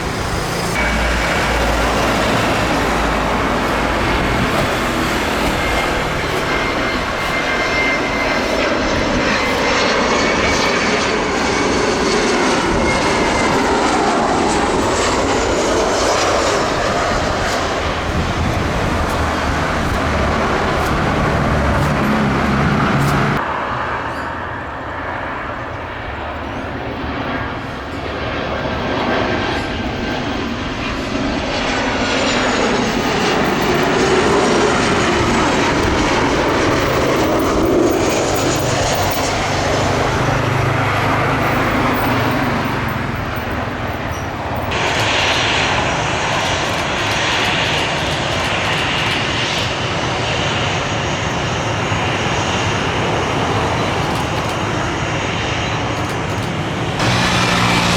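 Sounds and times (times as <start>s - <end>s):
jet engines passing by: 0.0s - 57.9s.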